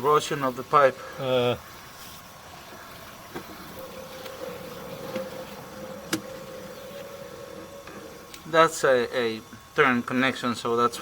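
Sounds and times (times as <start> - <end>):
steady buzzing hum: 0.0 - 11.0.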